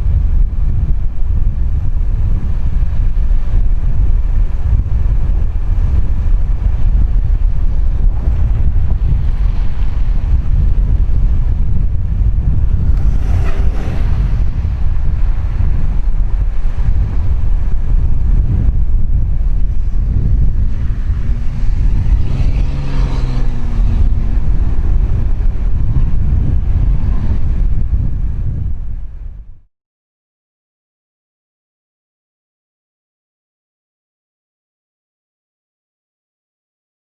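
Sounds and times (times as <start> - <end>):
wind buffeting microphone: 0.0 - 29.7.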